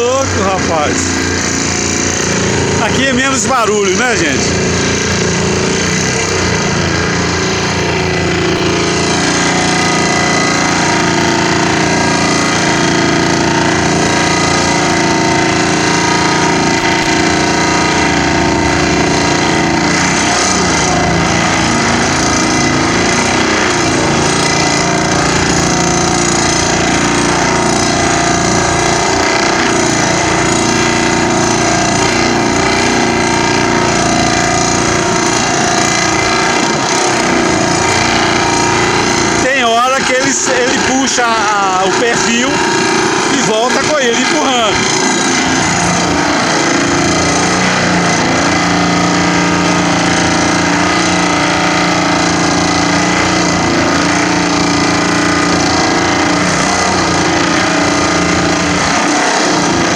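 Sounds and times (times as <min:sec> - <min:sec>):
vibratory pile hammer drone: 0:00.0 - 0:59.9.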